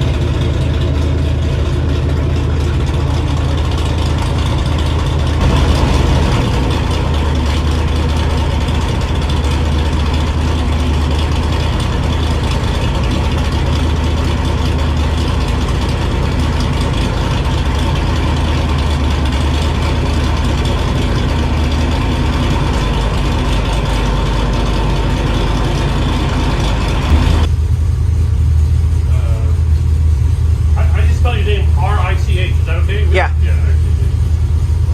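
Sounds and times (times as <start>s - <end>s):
engine running on a dyno: 0.0s - 34.9s.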